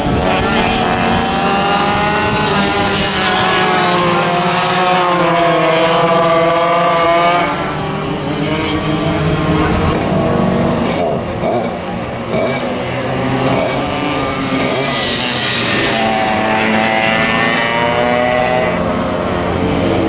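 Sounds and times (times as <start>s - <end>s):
kart engines racing: 0.0s - 20.0s.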